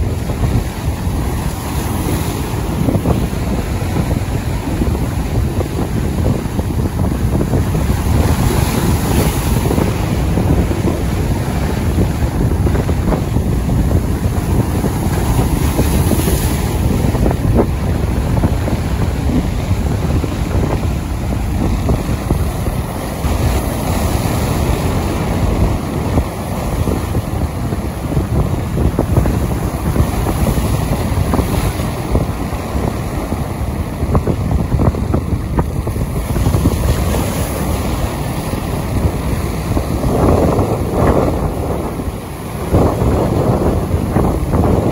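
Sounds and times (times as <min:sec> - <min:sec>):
wind rumbling on microphone: 0:00.0 - 0:44.9.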